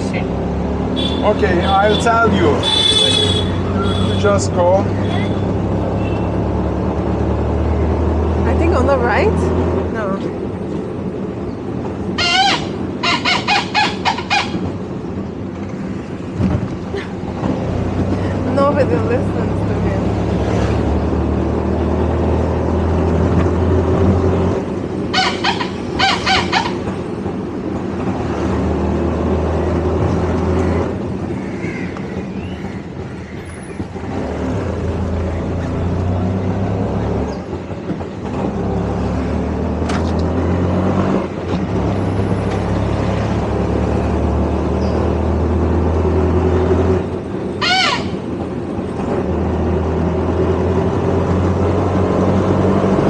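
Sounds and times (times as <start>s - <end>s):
auto rickshaw engine running: 0.0s - 53.0s.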